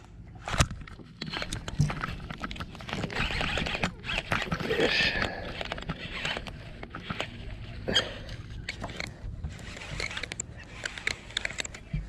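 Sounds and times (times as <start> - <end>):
fishing reel clicking: 1.2 - 11.9.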